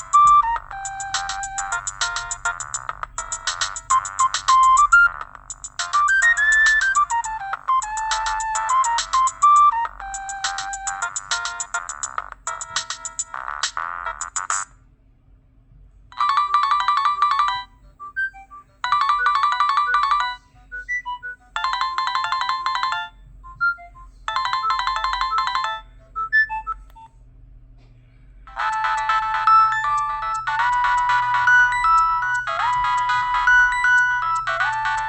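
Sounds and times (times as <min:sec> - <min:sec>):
mobile phone ringtone: 0:00.0 - 0:14.7, 0:16.2 - 0:27.1, 0:28.5 - 0:35.0.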